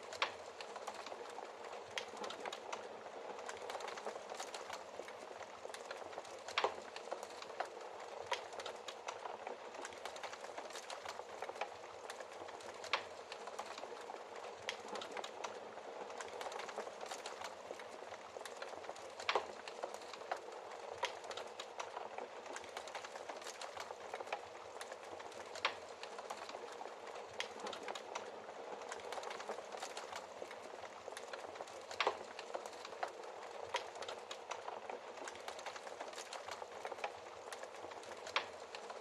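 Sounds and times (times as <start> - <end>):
fire popping: 0.0 - 39.0
wood fire crackling: 0.0 - 39.0.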